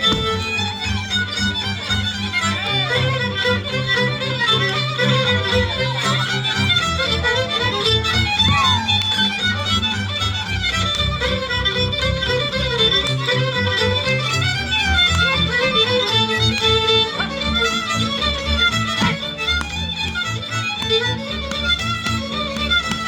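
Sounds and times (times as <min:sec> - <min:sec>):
fiddle melody: 0:00.0 - 0:23.0
folk band playing: 0:00.0 - 0:23.0.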